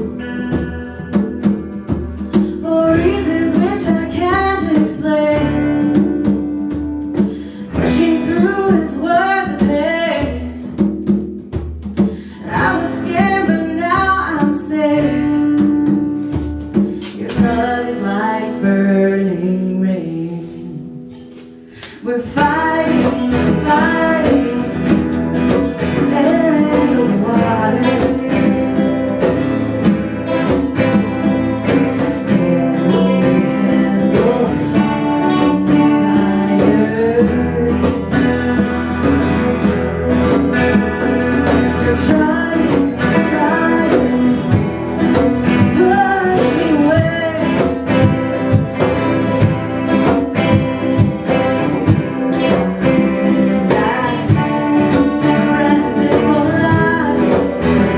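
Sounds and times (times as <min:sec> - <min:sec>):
person singing: 0:00.0 - 0:10.8, 0:12.0 - 0:57.9
strummed guitar: 0:00.0 - 0:57.9.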